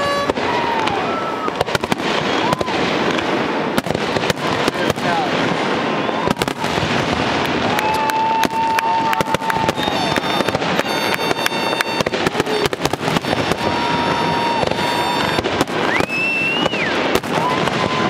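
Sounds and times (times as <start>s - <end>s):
fireworks bangs and crackles: 0.0s - 18.0s
high firework whistles: 0.0s - 18.0s.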